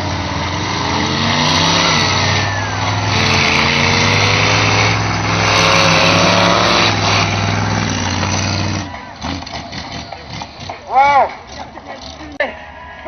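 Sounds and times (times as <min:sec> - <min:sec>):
monster truck engine revving: 0:00.0 - 0:12.4.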